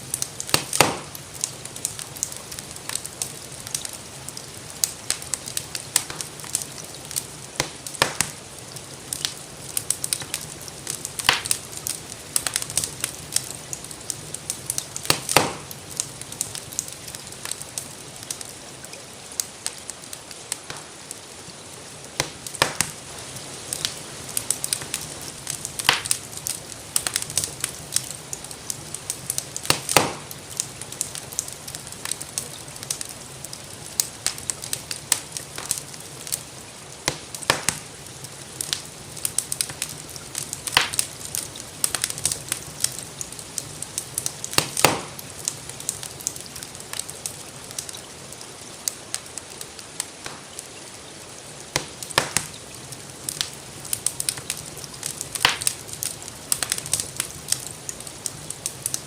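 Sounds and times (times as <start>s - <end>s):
gentle rain hissing: 0.0s - 59.0s
wood fire crackling and popping: 0.0s - 59.0s.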